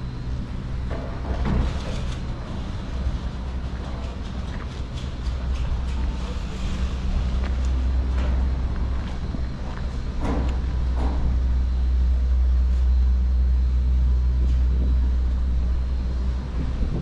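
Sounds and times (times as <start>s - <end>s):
chairlift mechanical drone: 0.0s - 17.0s.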